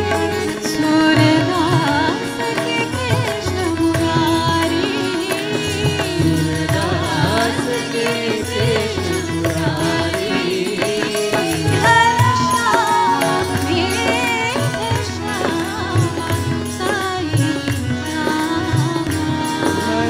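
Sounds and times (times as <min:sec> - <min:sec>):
instrumental accompaniment: 0:00.0 - 0:20.0
person singing devotional song: 0:00.0 - 0:20.0.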